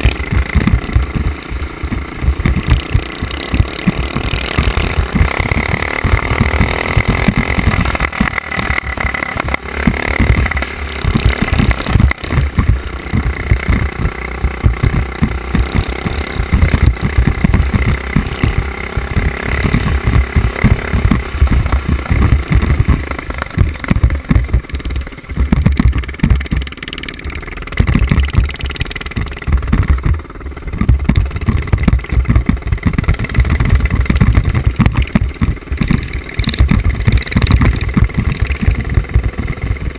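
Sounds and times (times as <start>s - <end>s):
mini bike engine revving: 0.0s - 39.9s.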